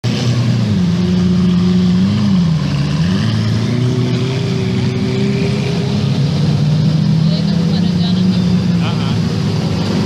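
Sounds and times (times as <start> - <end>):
car engine at high idle: 0.0 - 10.0.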